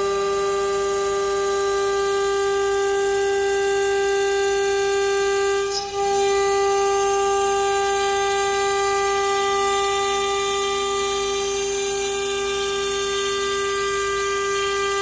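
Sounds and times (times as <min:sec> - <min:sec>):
machine spindle whining: 0:00.0 - 0:15.0.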